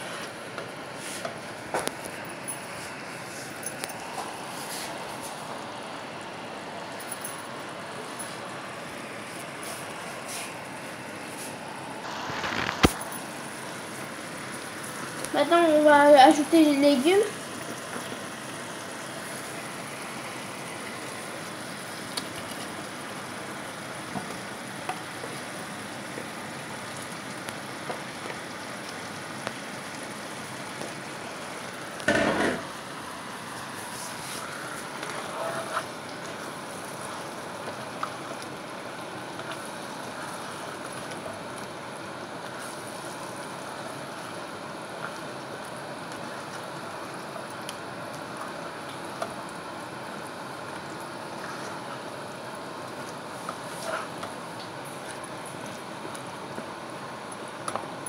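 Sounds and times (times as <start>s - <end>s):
sauce sizzling in frying pan: 7.6s - 58.0s.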